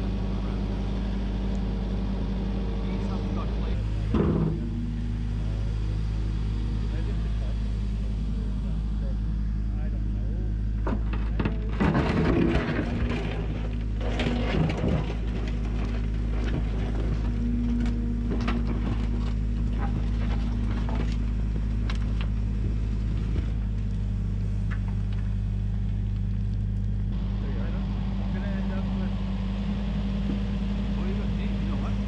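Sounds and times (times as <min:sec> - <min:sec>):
diesel excavator engine running: 0:00.0 - 0:32.0.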